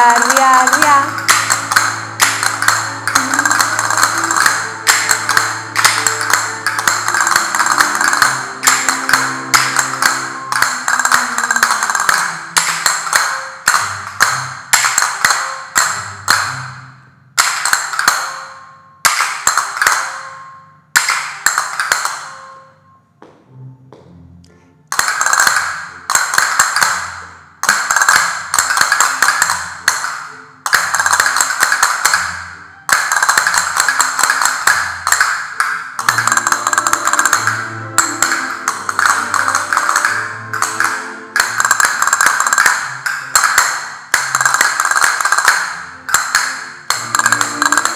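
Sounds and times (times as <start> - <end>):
castanets rolls and clicks: 0.0 - 16.6, 24.9 - 47.9.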